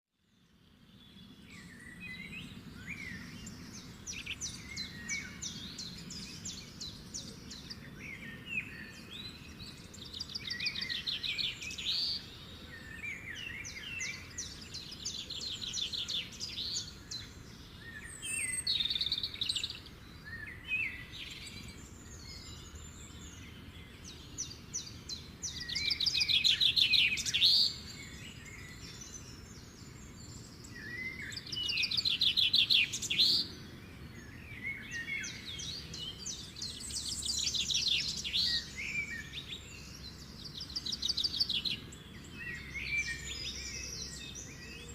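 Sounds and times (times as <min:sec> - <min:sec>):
steady low background noise: 0:00.2 - 0:44.9
birds trilling and chirping: 0:01.2 - 0:44.9.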